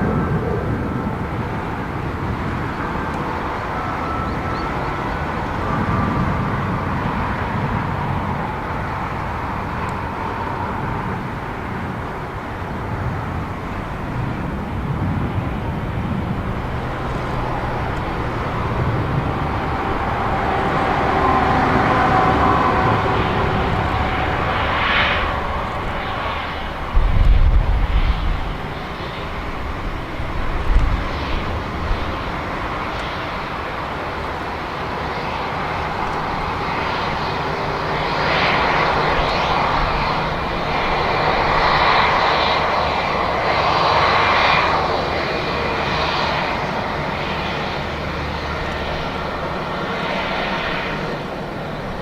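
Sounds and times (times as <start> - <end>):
jet airliner engine rumble: 0.0 - 52.0.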